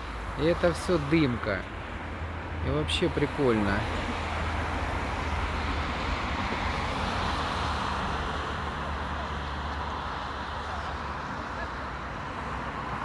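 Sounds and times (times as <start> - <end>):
road traffic rumble: 0.0 - 13.0
tyre hiss of passing vehicles: 0.0 - 13.0.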